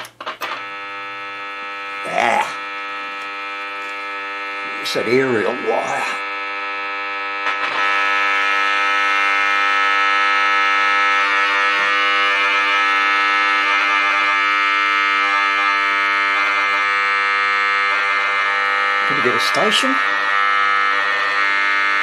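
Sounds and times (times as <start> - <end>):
radio loudspeaker buzzing hum: 0.0 - 22.0.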